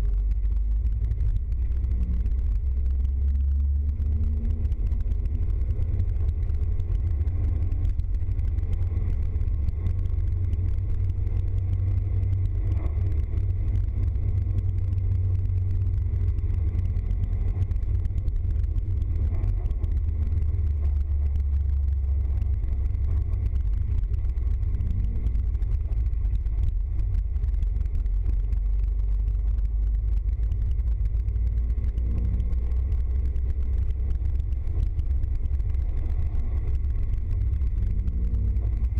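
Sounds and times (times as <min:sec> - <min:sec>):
van engine rumble: 0:00.0 - 0:38.9.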